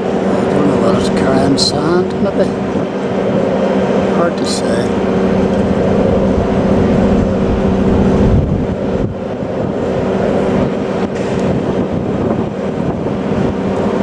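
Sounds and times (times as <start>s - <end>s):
diesel engine running: 0.0s - 14.0s
traffic noise: 0.0s - 14.0s.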